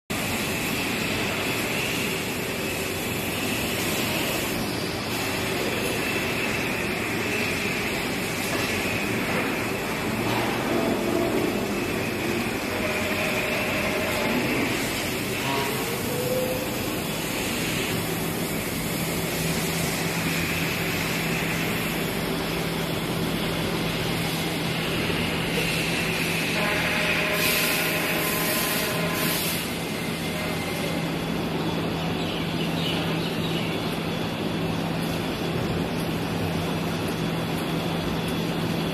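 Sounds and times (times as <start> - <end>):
machinery hum and hiss: 0.1 - 38.9.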